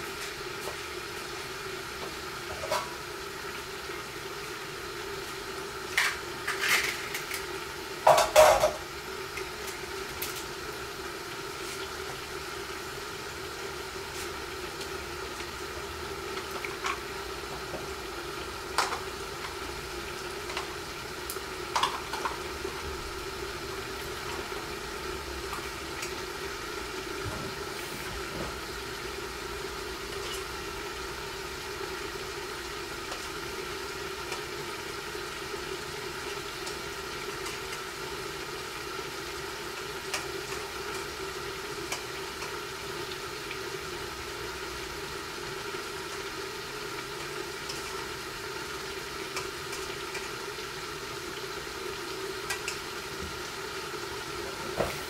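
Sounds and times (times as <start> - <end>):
frying hiss under a lid: 0.0 - 55.0.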